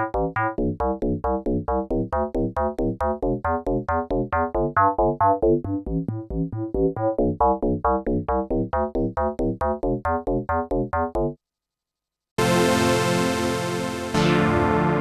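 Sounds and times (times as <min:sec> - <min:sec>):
synth bass line: 0:00.0 - 0:11.3, 0:12.4 - 0:15.0
synthesizer plucky sequenced notes: 0:00.0 - 0:11.3, 0:12.4 - 0:15.0.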